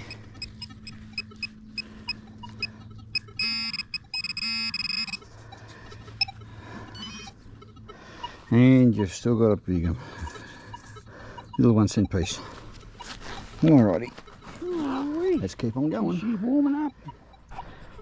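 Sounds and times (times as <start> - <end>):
metal detector beeping: 0.0 - 9.3, 10.1 - 18.0.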